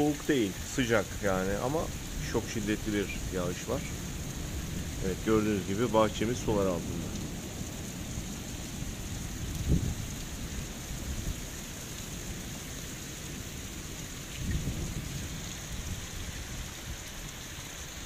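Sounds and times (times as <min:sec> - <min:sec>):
low thunder rumbles: 0:00.0 - 0:17.8
heavy rain hissing: 0:00.0 - 0:18.0.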